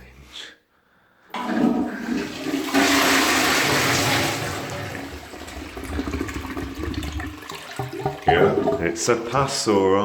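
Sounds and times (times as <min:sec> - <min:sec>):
toilet flushing: 0:01.3 - 0:09.8.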